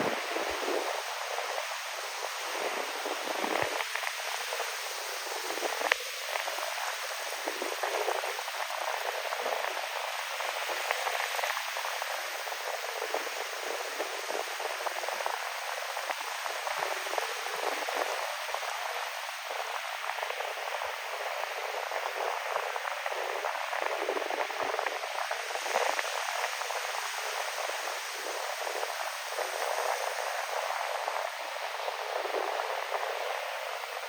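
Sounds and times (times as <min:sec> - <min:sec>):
waves washing onto beach: 0:00.0 - 0:34.0
wind: 0:00.0 - 0:34.0.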